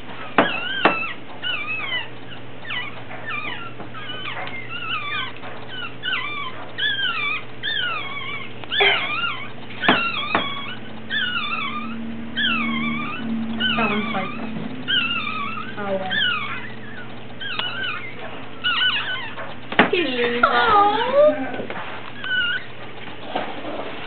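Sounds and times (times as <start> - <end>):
puppies crying in high squeals: 0.0 - 24.0.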